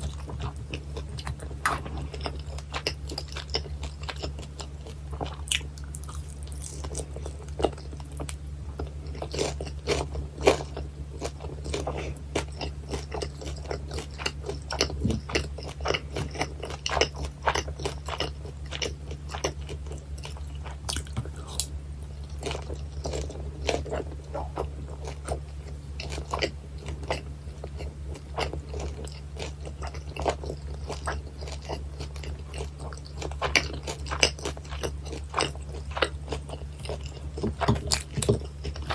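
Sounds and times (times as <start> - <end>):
crunchy chewing of fried food: 0.0 - 38.9
low steady hum: 0.0 - 38.9.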